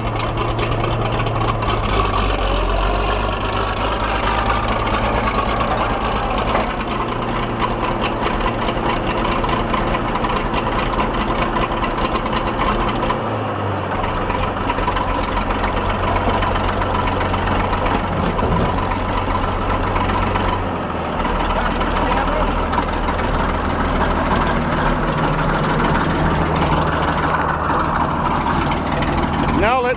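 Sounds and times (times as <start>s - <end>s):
bulldozer engine idling: 0.0s - 29.9s.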